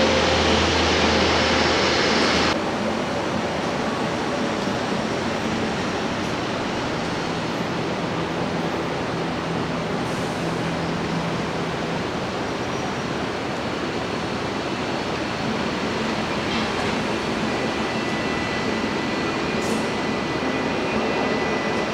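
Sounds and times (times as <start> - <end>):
jet engines roaring: 0.0 - 21.9.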